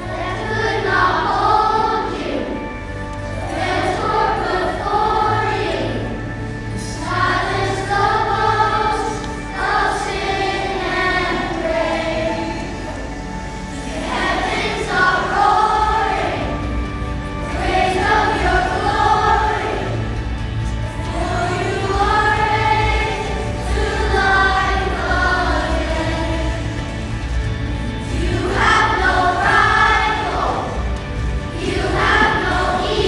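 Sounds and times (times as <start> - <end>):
choir singing slow song: 0.0 - 33.0.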